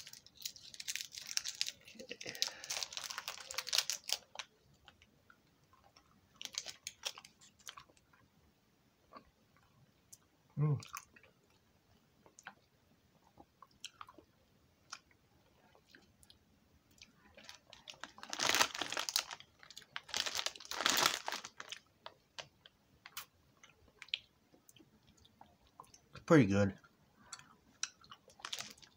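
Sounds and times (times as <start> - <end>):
person chewing candy: 0.0 - 8.2, 12.2 - 26.1, 26.8 - 28.9.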